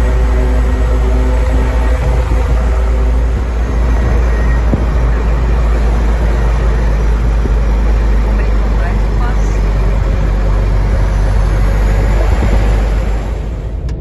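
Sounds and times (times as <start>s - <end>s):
tyre and road rumble: 0.0s - 14.0s
vehicle engine drone: 0.0s - 14.0s.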